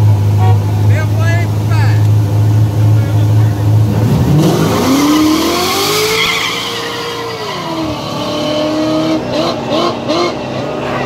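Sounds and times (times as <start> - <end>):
drag car engines accelerating: 0.0 - 11.0.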